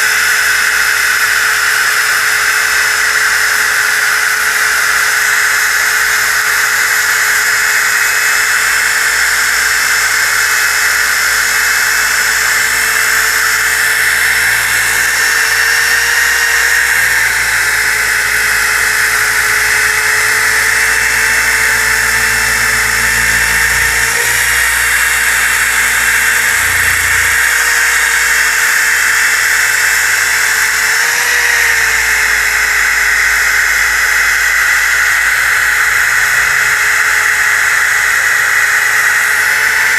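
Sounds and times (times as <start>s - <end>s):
abrasive rasping on wood: 0.0s - 39.9s
disc sander whining: 0.0s - 39.9s.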